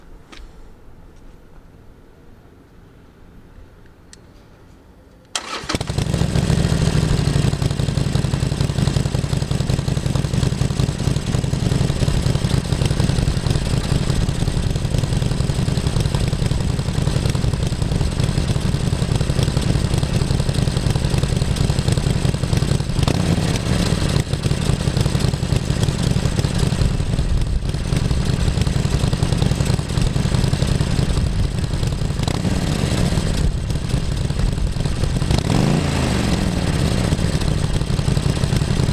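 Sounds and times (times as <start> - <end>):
motorcycle engine starting and idling: 5.3 - 38.9.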